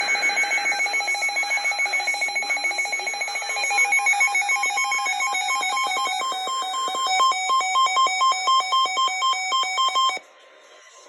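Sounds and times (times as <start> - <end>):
electronic alarm beeping: 0.0 - 10.2.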